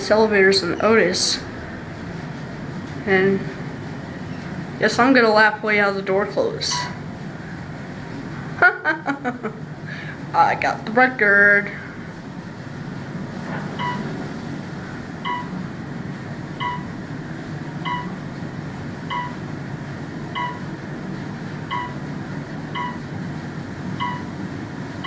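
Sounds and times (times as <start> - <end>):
elevator humming: 0.0 - 25.0.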